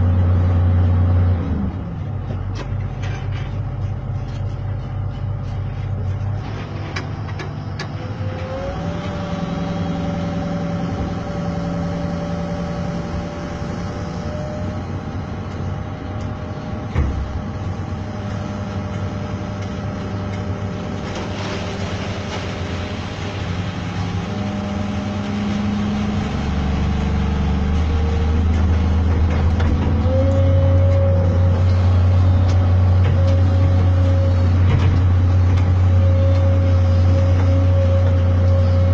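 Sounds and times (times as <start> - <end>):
construction machine engine running: 0.0 - 38.9
deeper engine rumble: 0.0 - 38.9.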